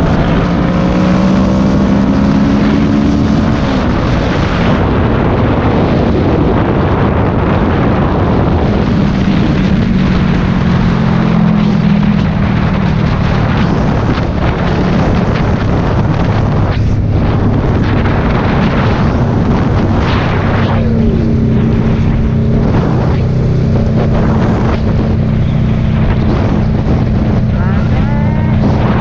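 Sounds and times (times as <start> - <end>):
motorcycle engine: 0.0 - 29.0
wind buffeting microphone: 0.0 - 29.0.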